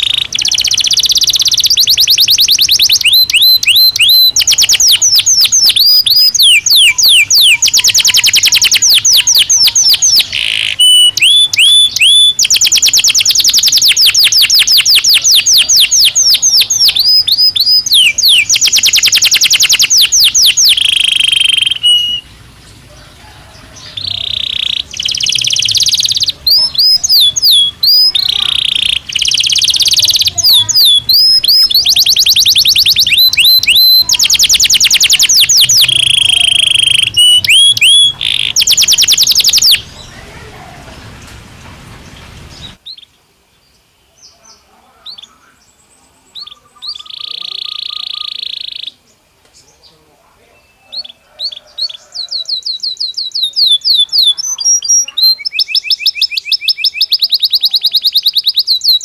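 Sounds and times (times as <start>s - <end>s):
canary singing: 0.0s - 43.2s, 44.1s - 59.0s.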